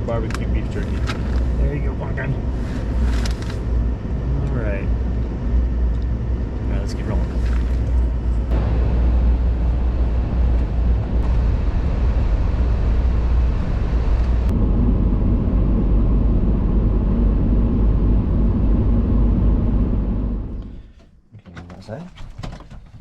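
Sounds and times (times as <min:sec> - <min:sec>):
steady low hum: 0:00.0 - 0:22.2
truck engine and road noise: 0:00.0 - 0:23.0.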